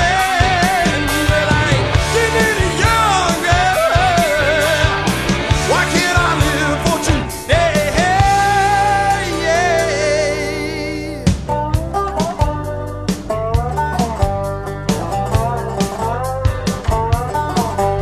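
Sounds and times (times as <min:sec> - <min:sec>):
rock song with singer: 0:00.0 - 0:18.0.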